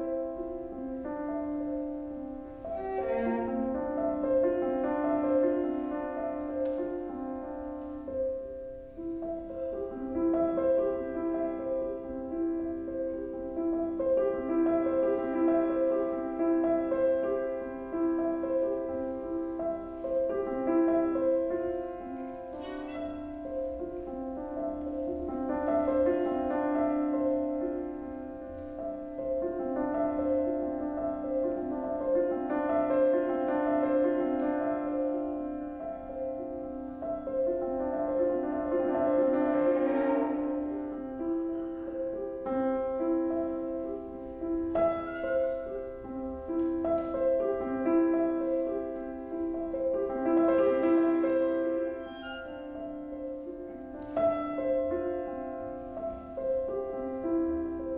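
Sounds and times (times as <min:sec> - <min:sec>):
violin: 0:00.0 - 0:08.4, 0:09.0 - 0:57.9
cello: 0:00.0 - 0:57.9
piano: 0:00.0 - 0:57.9.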